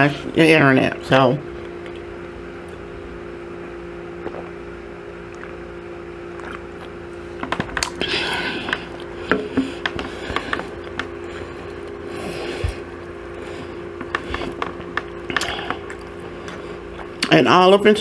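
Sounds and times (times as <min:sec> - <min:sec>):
steady low hum: 0:00.0 - 0:18.0
crackly chewing: 0:01.5 - 0:17.7.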